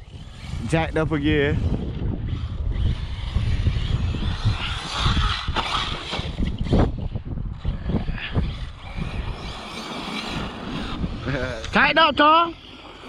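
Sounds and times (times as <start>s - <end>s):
tyres on loose dirt: 0.0s - 12.0s
rc truck motor: 0.0s - 13.0s
wind buffeting microphone: 0.0s - 13.0s.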